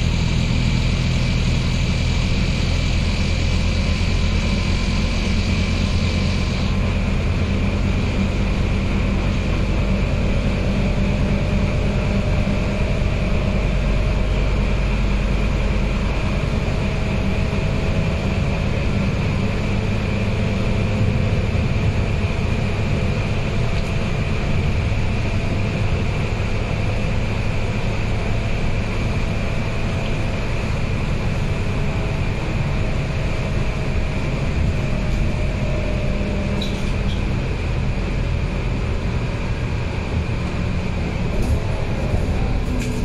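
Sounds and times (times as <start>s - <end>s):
bus diesel engine running: 0.0s - 43.0s
road and tyre noise: 0.0s - 43.0s.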